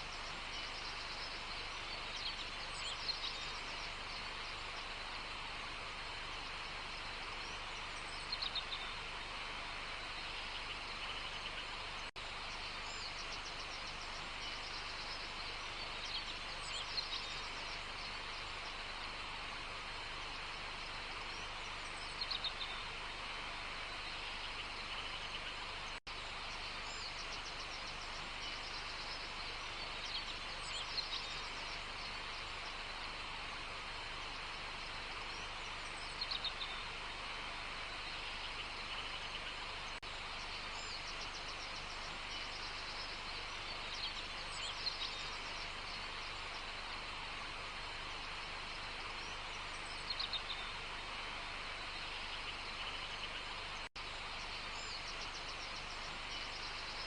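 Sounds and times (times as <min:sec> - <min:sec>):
outdoor ambient hiss: 0:00.0 - 0:57.0
wild birds chirping: 0:00.0 - 0:57.0.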